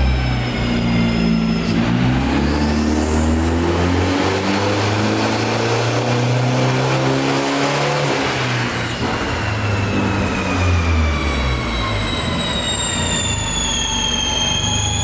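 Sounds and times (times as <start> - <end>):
car engine on dyno: 0.0 - 15.0
high-pitched whine: 0.0 - 15.0.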